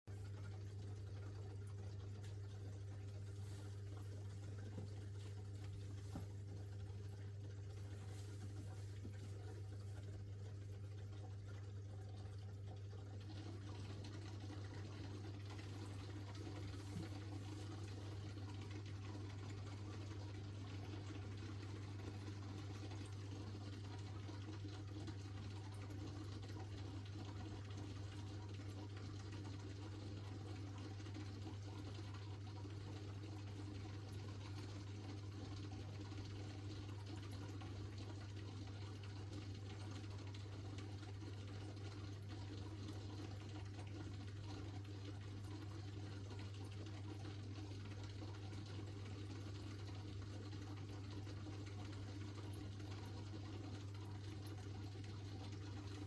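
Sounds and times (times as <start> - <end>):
aquarium filter humming: 0.1 - 56.0
moving water: 0.1 - 56.0.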